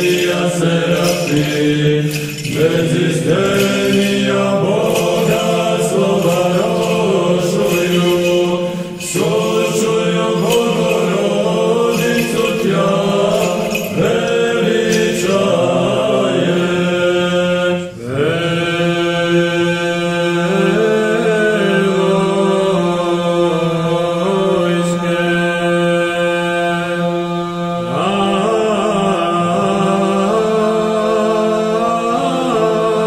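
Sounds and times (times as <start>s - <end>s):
men singing liturgical chant: 0.0s - 33.0s.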